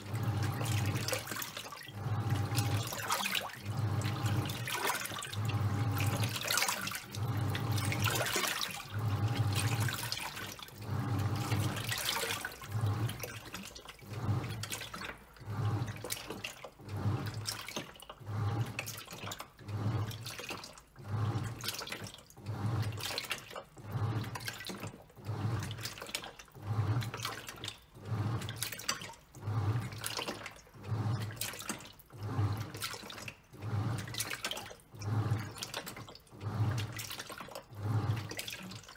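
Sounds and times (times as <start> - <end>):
washing machine motor humming: 0.0 - 38.9
water sloshing and splashing: 0.0 - 38.9.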